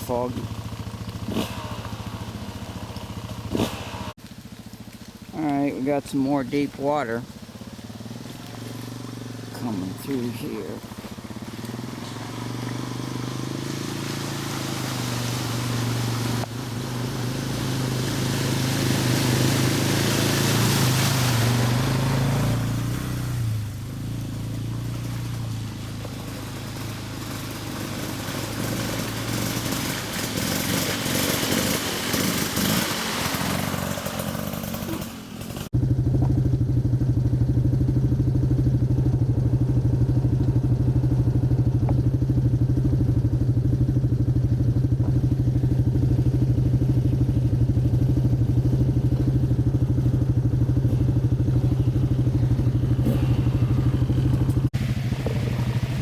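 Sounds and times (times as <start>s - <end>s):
rush of water noise: 0.0s - 35.7s, 45.0s - 56.0s
atv engines running: 0.0s - 56.0s.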